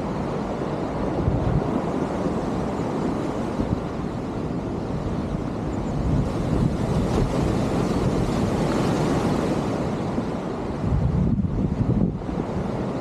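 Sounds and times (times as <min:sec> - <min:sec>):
sea surf against breakwater: 0:00.0 - 0:13.0
wind buffeting microphone: 0:00.0 - 0:13.0.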